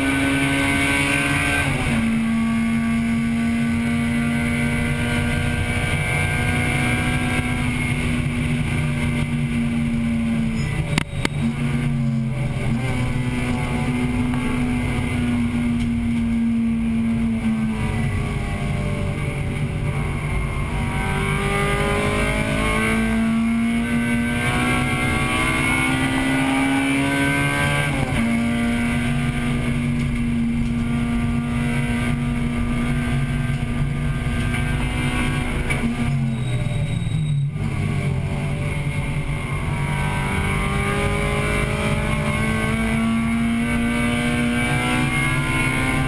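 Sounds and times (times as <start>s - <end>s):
car engine revving: 0.0s - 46.0s
road and wind noise: 0.0s - 46.0s.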